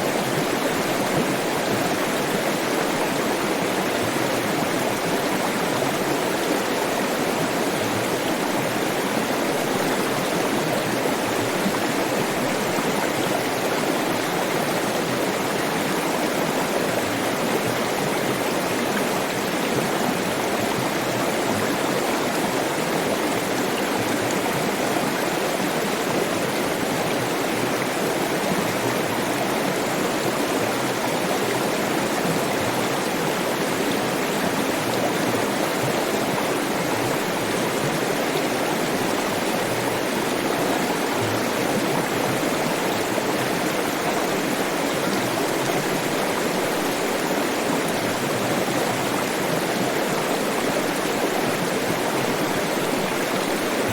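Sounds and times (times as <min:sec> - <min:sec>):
stream rushing: 0:00.0 - 0:53.9.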